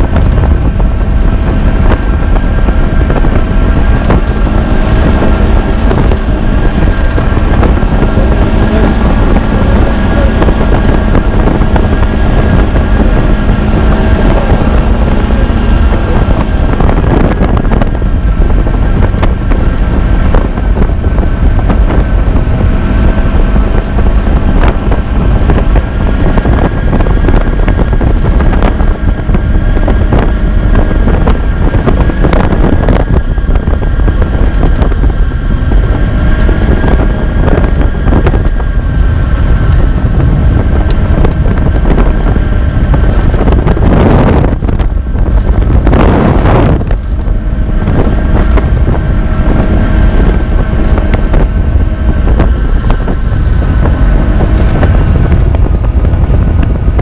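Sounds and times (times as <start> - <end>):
aircraft engine droning: 0.0 - 57.0
wind buffeting microphone: 0.0 - 57.0.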